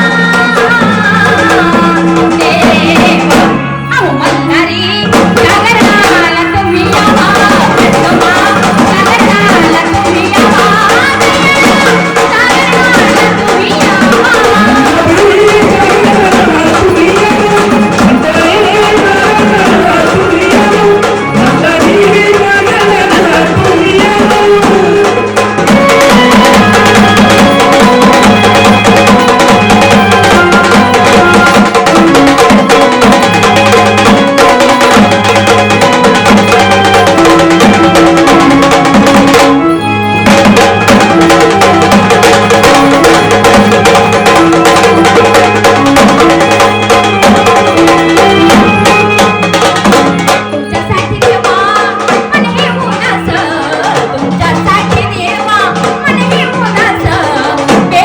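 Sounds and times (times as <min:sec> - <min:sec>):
drums in driving rhythm: 0:00.0 - 0:58.0
electronic organ melody: 0:00.0 - 0:58.0.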